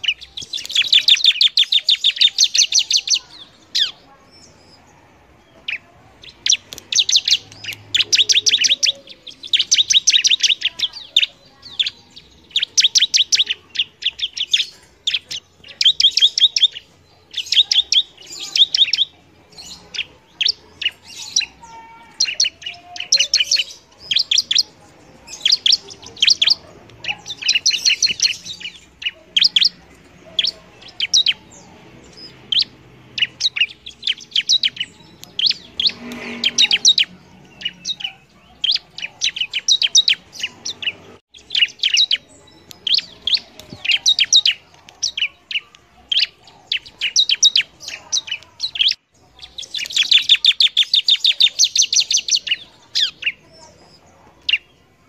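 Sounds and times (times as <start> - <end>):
bird singing chattering phrases: 0.0 - 55.0.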